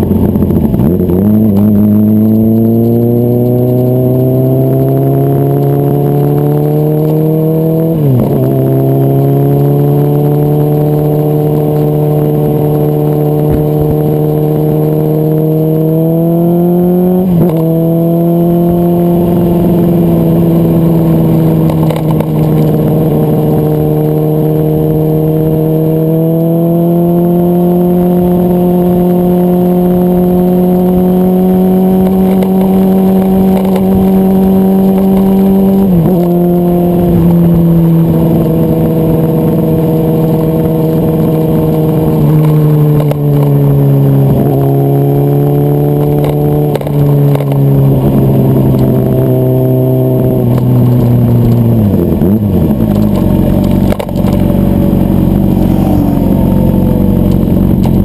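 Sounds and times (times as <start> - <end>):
motorcycle engine running hard: 0.0 - 58.0.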